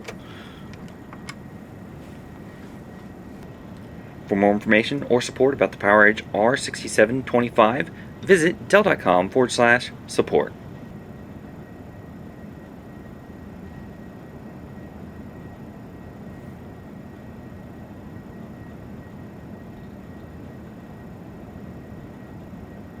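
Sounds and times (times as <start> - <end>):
faint high steady tone: 0.0 - 23.0
low hum and hiss: 0.0 - 23.0.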